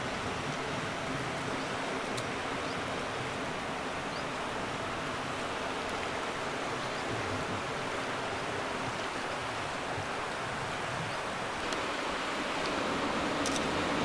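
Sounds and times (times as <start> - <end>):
fast-flowing river rushing: 0.0 - 14.0.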